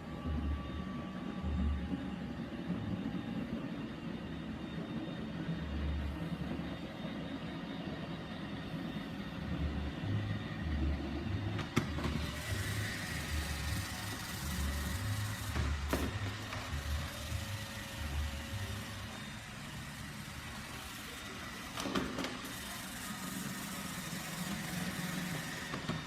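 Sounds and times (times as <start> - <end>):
robot vacuum running: 0.0 - 26.0.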